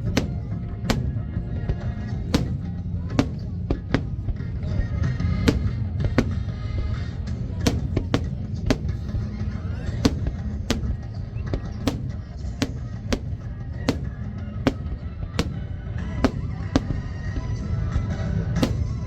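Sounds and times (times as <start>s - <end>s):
fireworks bursting: 0.0s - 4.4s, 5.3s - 17.2s, 18.6s - 19.0s.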